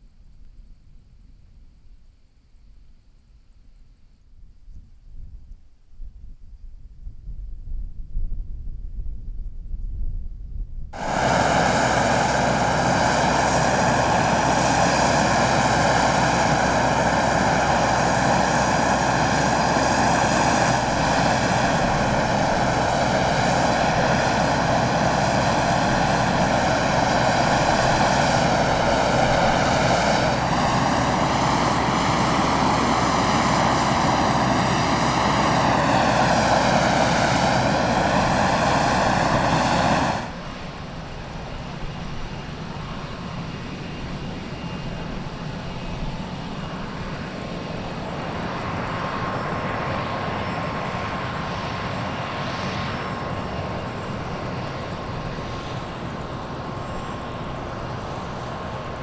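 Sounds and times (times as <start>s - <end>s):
propeller aircraft engine droning: 4.4s - 59.0s.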